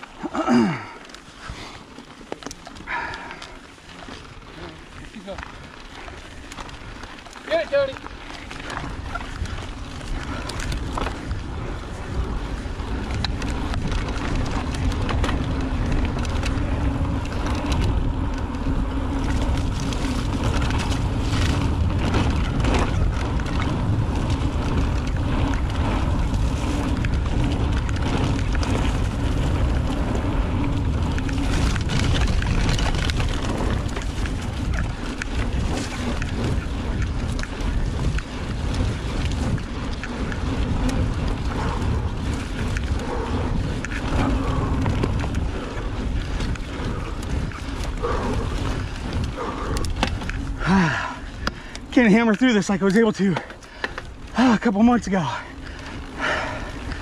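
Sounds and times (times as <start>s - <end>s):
bike rattling over bumps: 0.0s - 57.0s
bike tyre rumble: 0.0s - 57.0s
wind buffeting microphone: 2.8s - 57.0s.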